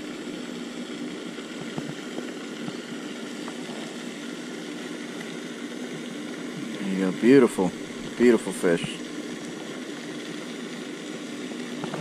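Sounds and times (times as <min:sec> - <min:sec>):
fountain humming and spraying: 0:00.0 - 0:12.0.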